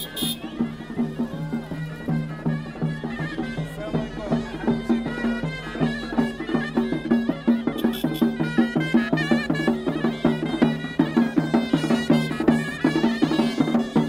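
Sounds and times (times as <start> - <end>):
driving drum beat: 0.0 - 14.0.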